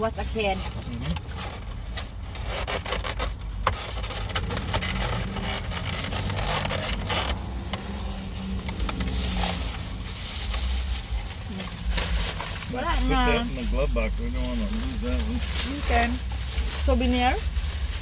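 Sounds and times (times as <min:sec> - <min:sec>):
rustling and scraping in a car: 0:00.0 - 0:18.0
low rumble: 0:03.4 - 0:18.0.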